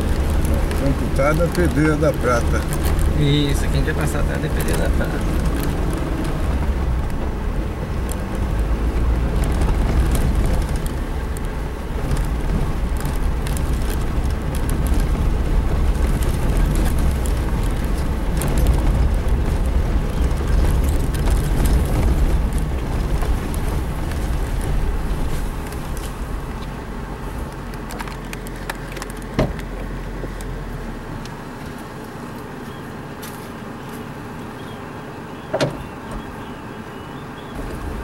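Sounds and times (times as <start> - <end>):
car engine and tyre rumble: 0.0 - 38.0.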